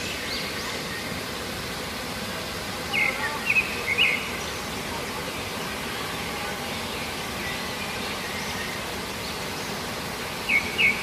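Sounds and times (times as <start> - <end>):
birds calling: 0.0 - 1.9, 2.7 - 11.0.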